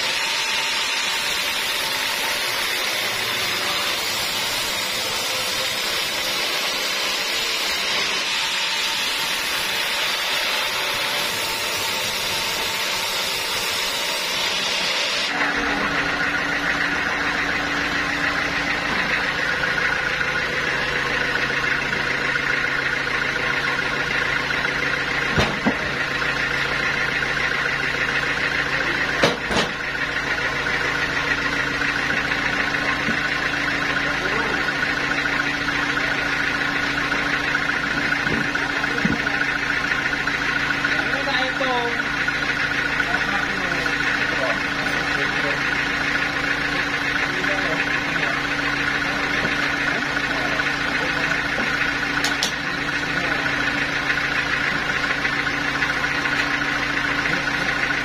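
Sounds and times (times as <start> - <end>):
band saw cutting log: 0.0 - 58.0
mill mechanical hum: 0.0 - 58.0.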